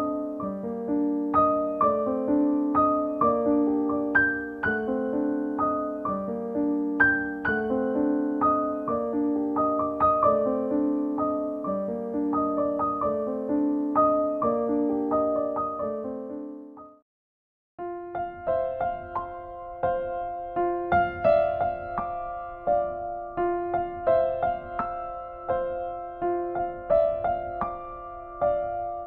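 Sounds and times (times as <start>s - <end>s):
gentle piano melody: 0.0s - 17.0s, 17.8s - 29.0s.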